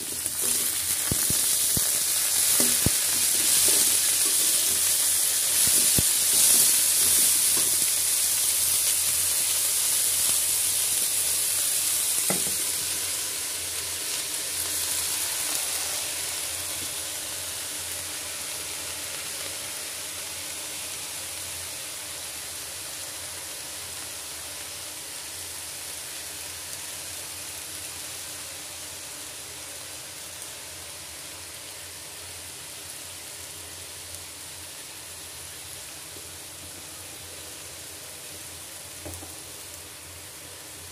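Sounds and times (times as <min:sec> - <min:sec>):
leaves sizzling in a pan: 0:00.0 - 0:40.9.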